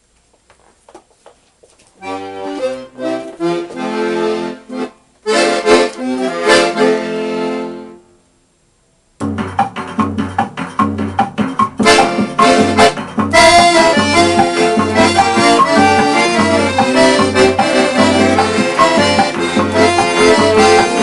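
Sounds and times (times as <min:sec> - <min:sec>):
accordion playing chords: 0:02.0 - 0:08.1, 0:09.3 - 0:21.0.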